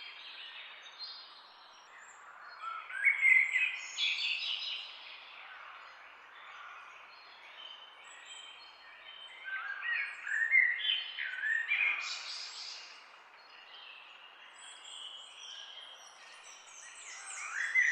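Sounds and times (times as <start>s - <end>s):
birds singing whistled notes: 0.0s - 17.9s.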